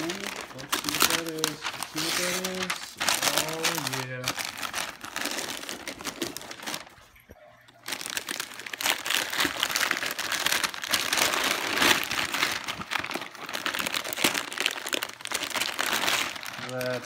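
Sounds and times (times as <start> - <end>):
wrapping paper crinkling: 0.0 - 17.0.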